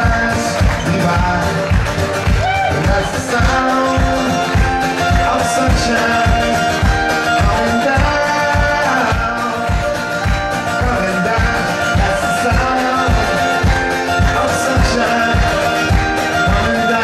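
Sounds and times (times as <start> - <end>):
acoustic guitars strumming: 0.0 - 17.0
person singing: 0.0 - 17.0.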